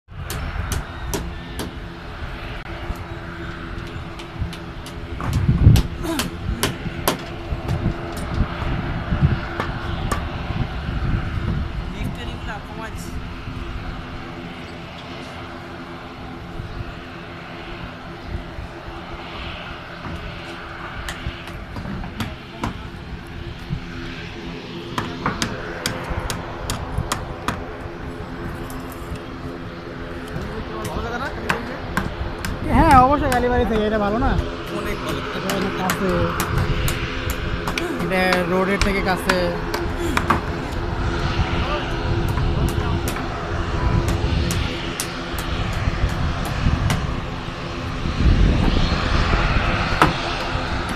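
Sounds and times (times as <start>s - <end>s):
distant engines rumbling: 0.1s - 50.9s.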